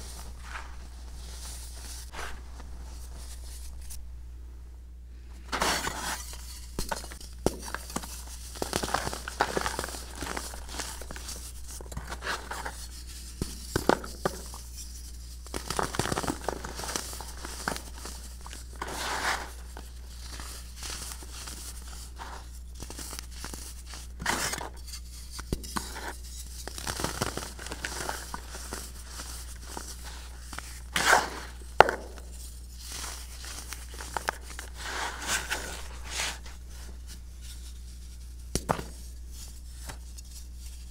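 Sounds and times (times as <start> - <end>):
soft powdery crumbling: 0.0 - 4.0, 5.4 - 40.9
hardened baking soda crunching: 5.4 - 40.9.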